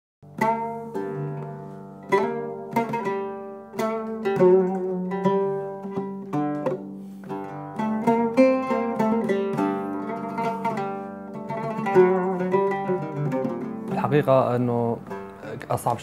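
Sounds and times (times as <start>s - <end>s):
plucked string instrument melody: 0.2s - 16.0s.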